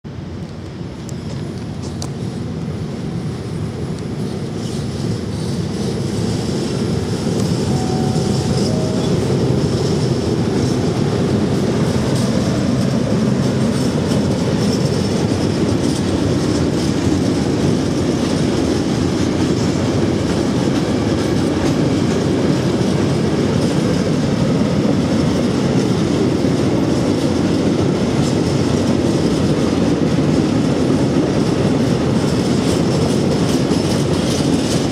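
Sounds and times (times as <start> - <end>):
freight train rumbling past: 0.1 - 34.9.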